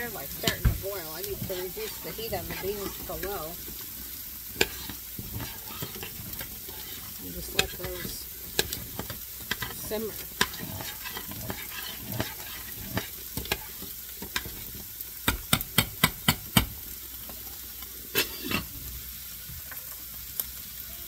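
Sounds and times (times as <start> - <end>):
meat sizzling in a skillet: 0.0 - 21.0.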